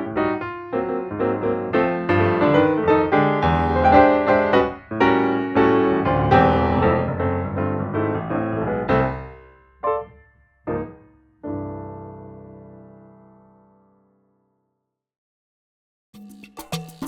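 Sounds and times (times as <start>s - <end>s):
busy piano melody: 0.0s - 14.3s.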